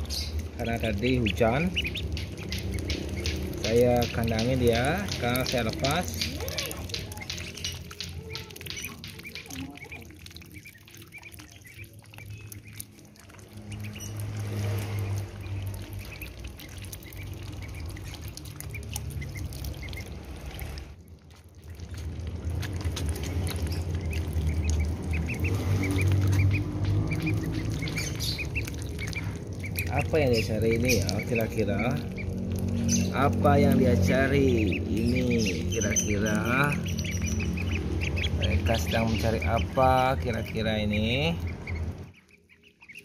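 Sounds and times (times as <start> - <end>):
duckling peeping calls: 0.0 - 43.0
ducklings dabbling in water: 0.0 - 43.0.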